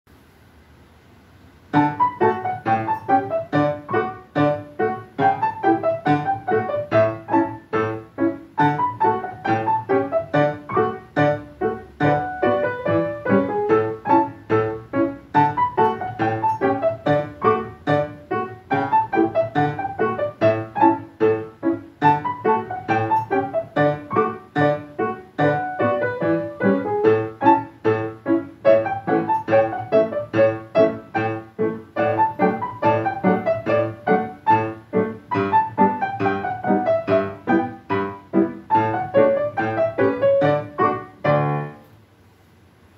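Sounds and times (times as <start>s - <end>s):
piano duet playing lively piece: 1.7s - 41.9s.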